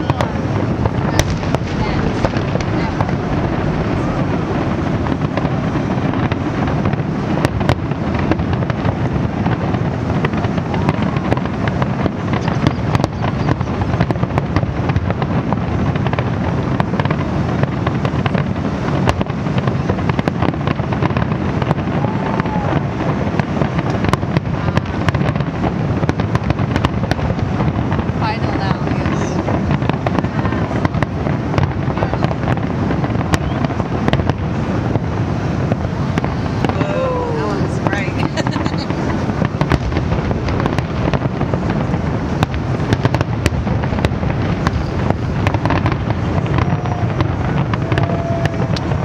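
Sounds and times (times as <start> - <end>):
low rumble of fireworks explosions: 0.0 - 49.0
sharp fireworks cracks: 0.0 - 49.0.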